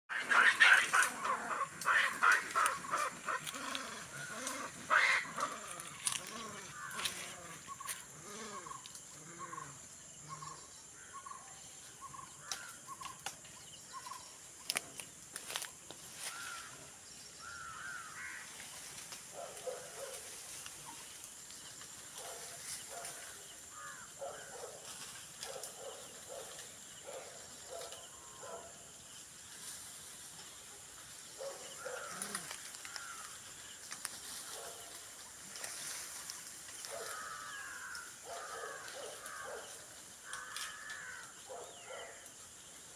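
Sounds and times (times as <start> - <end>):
animal calls from treetops: 0.1 - 28.7, 31.0 - 42.4.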